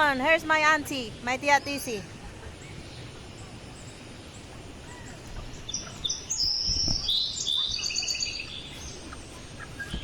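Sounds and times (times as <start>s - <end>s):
rural outdoor ambience: 0.0s - 10.0s.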